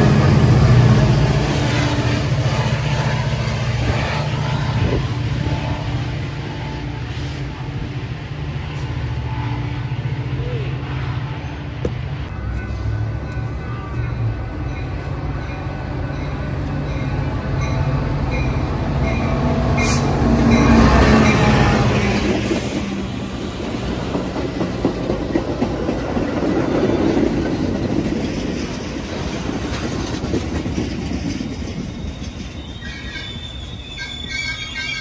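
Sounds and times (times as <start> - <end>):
diesel train passing: 0.0 - 35.0
train wheels on rails: 0.0 - 35.0.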